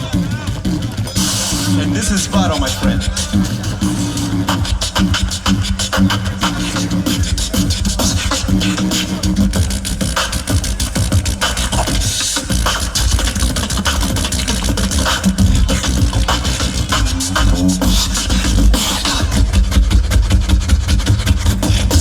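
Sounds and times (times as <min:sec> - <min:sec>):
beatboxing vocal percussion: 0:00.0 - 0:22.0
hummed bass line: 0:00.0 - 0:22.0.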